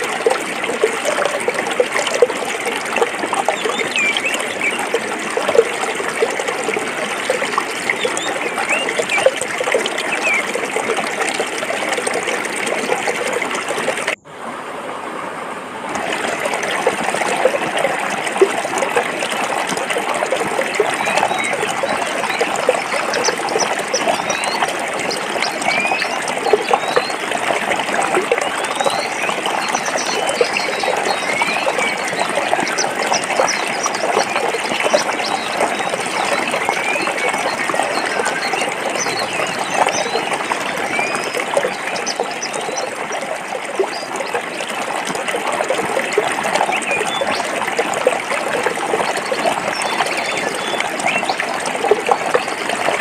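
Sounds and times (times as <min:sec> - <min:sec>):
stream water rushing over rocks: 0:00.0 - 0:53.0.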